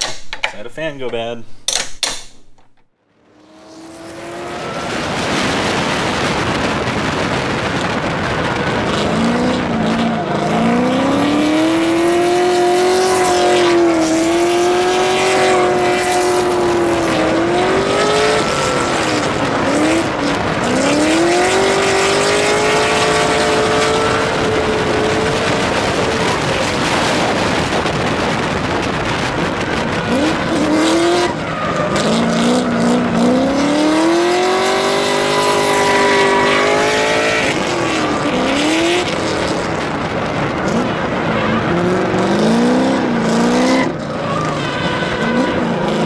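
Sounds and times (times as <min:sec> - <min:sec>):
steady rush of noise: 0:02.9 - 0:46.0
car engine revving hard: 0:03.3 - 0:46.0.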